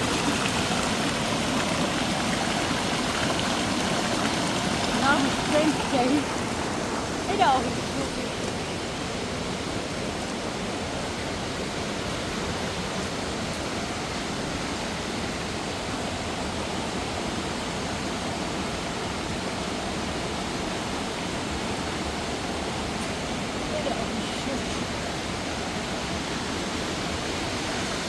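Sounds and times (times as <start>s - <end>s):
waterfall and stream rushing: 0.0s - 28.0s.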